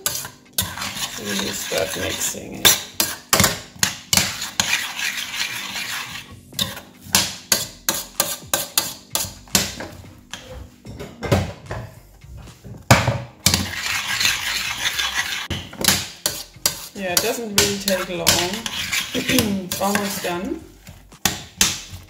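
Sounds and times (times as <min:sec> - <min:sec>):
metal spoon scraping saucepan: 0:00.0 - 0:10.6, 0:13.4 - 0:22.0.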